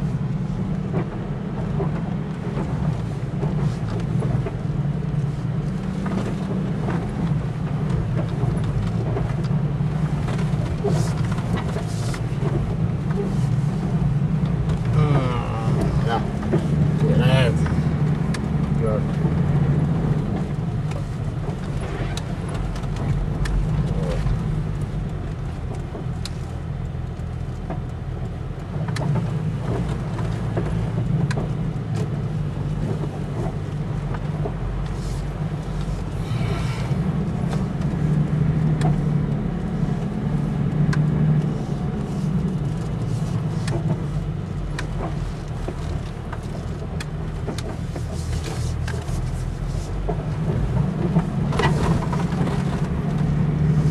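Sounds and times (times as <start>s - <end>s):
vehicle engine droning: 0.0s - 53.9s.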